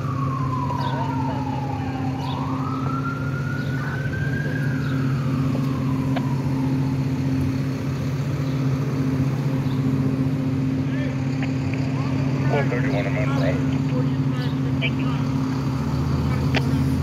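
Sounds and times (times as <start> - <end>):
low engine hum: 0.0 - 17.0
siren wailing: 0.0 - 17.0.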